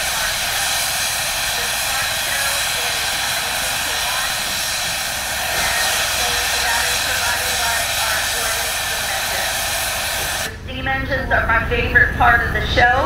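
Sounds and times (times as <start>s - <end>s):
steam hissing: 0.0s - 10.6s
faint voices: 0.0s - 13.0s.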